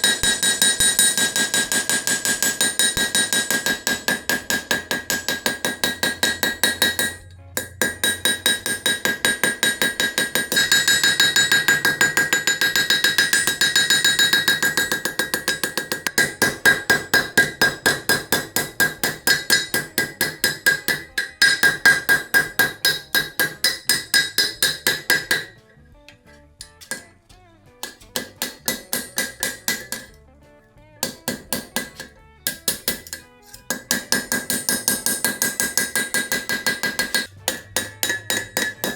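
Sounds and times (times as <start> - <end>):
hammer striking iron on anvil: 0.0 - 25.7, 26.6 - 27.2, 27.8 - 30.2, 31.0 - 38.9.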